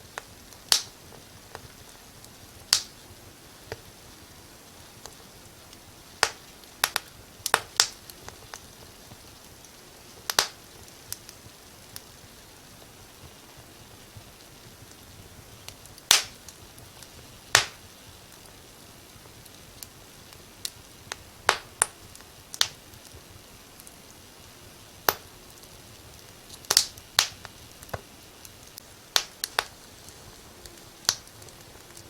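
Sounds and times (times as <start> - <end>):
faint steady hiss: 0.0 - 32.0
wood fire crackling: 0.0 - 32.0.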